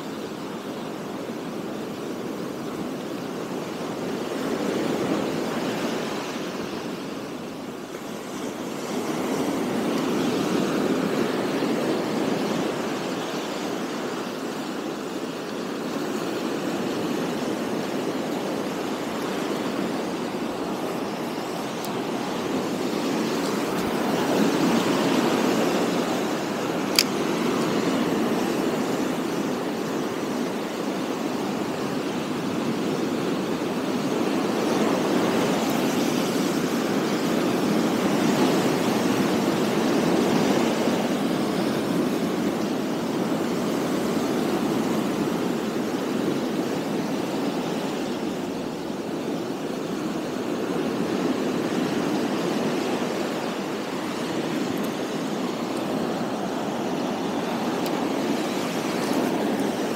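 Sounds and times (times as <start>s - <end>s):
sea surf breaking on beach: 0.0s - 59.9s.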